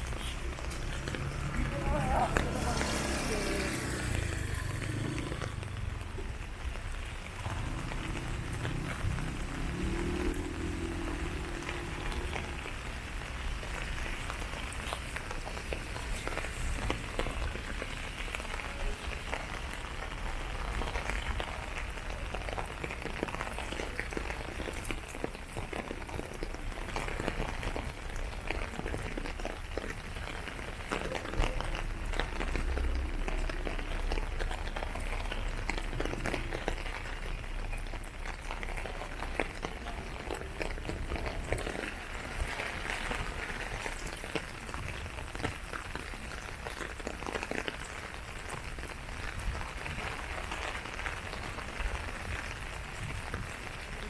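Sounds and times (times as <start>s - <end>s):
rain-like hiss: 0.0s - 54.0s.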